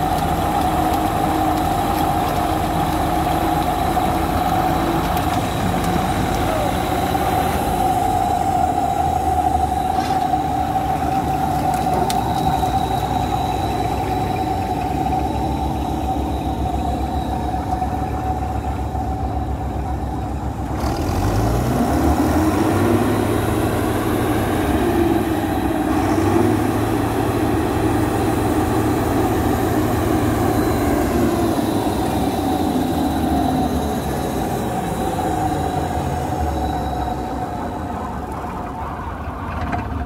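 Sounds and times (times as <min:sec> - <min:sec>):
combine harvester running: 0:00.0 - 0:40.0
constant mechanical whine: 0:00.0 - 0:40.0.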